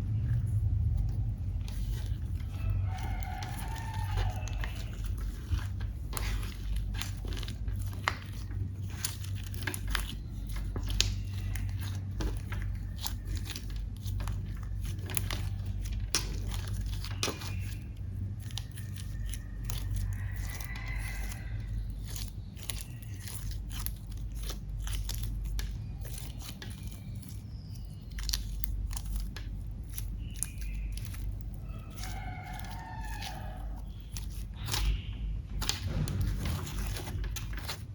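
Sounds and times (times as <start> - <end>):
low steady hum: 0.0 - 37.9
slime clicking and popping: 0.4 - 37.8.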